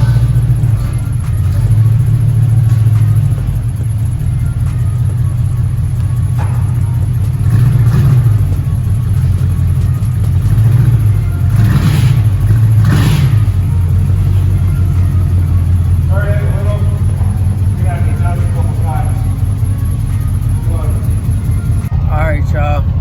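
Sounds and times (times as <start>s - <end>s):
car exhaust rumble: 0.0s - 23.0s.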